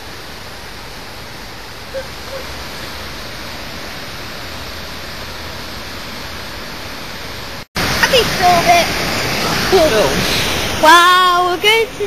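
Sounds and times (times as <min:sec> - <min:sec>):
river rapids rushing over rocks: 0:00.0 - 0:12.0.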